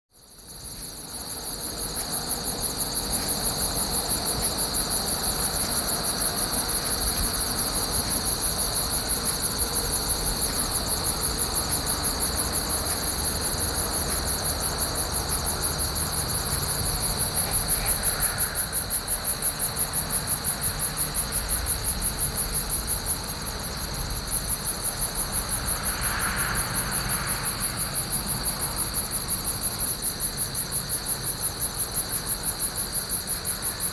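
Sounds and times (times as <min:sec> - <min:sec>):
crickets chirping: 0:00.1 - 0:33.9
distant road traffic: 0:00.4 - 0:31.8.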